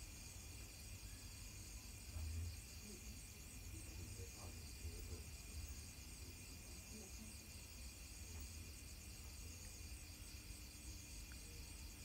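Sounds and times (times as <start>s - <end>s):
night insects chorus: 0.0s - 12.0s.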